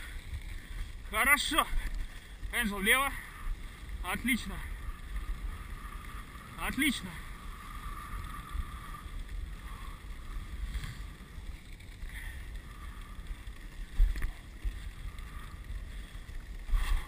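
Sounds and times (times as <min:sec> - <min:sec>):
sled runners rushing over snow: 0:00.0 - 0:17.0.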